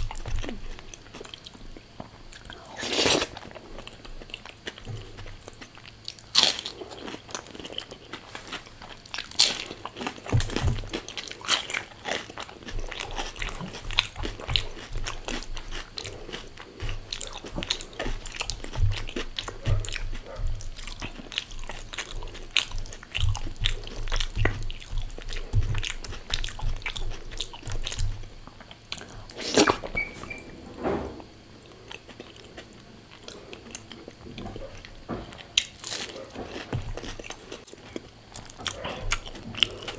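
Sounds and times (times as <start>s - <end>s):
wet chewing: 0.0s - 30.4s, 31.6s - 39.9s.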